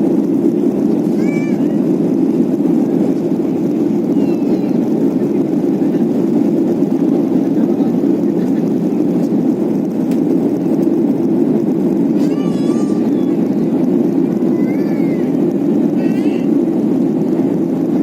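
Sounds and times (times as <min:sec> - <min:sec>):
airplane cabin jet engine drone: 0:00.0 - 0:18.0.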